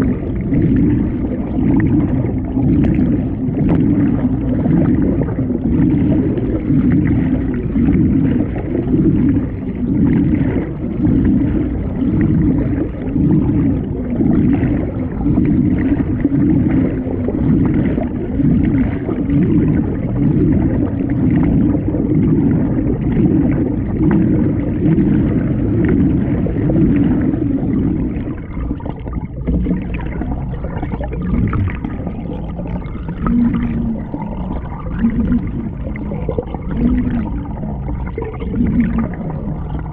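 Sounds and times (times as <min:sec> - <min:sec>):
muffled underwater rushing water: 0:00.0 - 0:39.9.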